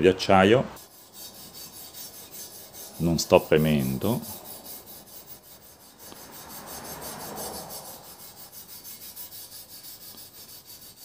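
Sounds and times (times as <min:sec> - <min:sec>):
scouring pad scratching on metal: 0:00.8 - 0:11.0.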